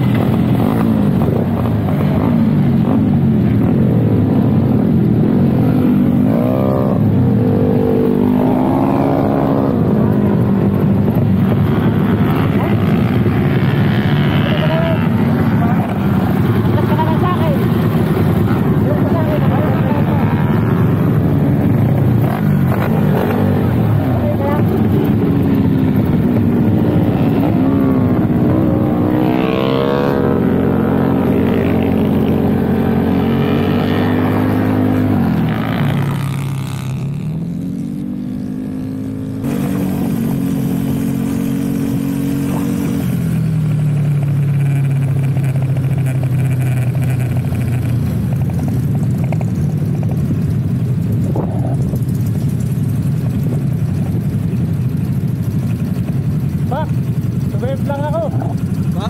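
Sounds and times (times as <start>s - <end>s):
motorcycle engine at low revs: 0.0s - 59.0s.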